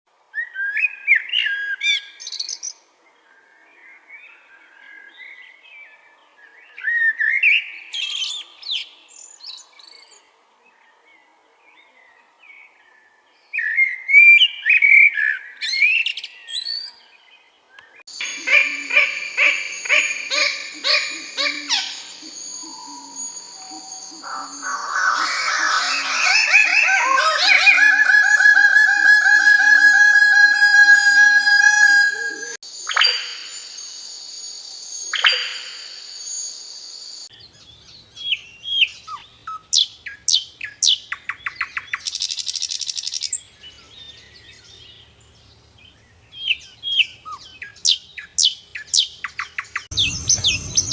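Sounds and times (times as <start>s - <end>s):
songbird chirps and whistles: 0.3s - 2.8s, 6.7s - 10.2s, 13.5s - 17.1s, 17.8s - 50.9s.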